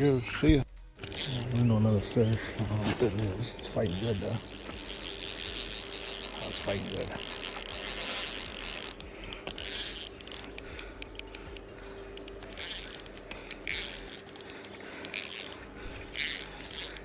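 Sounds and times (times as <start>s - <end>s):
fishing reel ratcheting: 0.0s - 17.0s.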